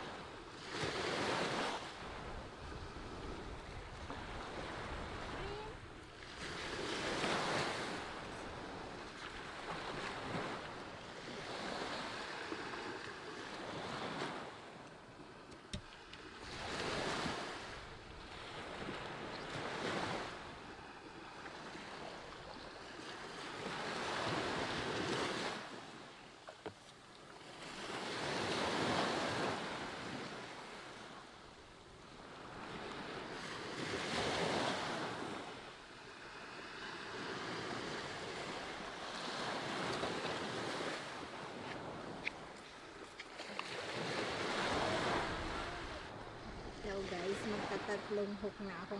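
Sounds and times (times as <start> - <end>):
ocean waves washing up a beach: 0.0 - 48.9.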